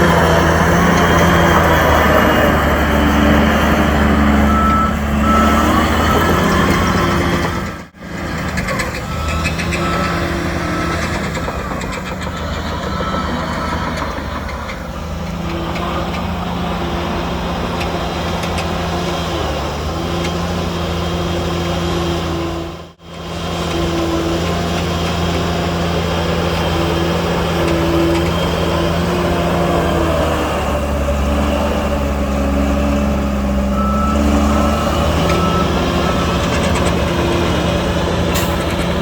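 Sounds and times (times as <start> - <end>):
heavy diesel machinery running: 0.0 - 39.0.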